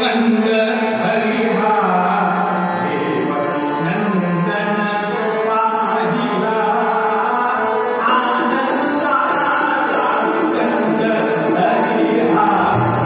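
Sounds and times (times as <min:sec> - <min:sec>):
harmonium: 0:00.0 - 0:13.0
man singing long held notes: 0:00.0 - 0:13.0
tabla: 0:00.0 - 0:13.0.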